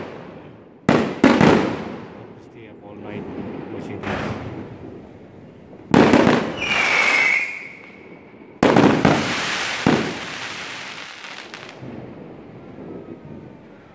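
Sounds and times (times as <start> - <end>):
fireworks bursting: 0.0 - 2.2, 3.2 - 13.9.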